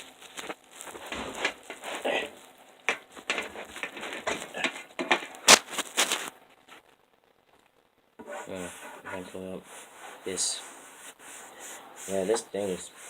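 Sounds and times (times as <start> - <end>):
rustling and scraping of handling: 0.0 - 13.0.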